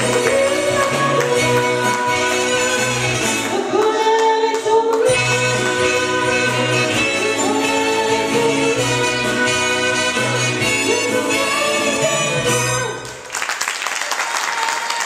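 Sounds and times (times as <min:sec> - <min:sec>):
cabaret music with singing: 0:00.0 - 0:13.3.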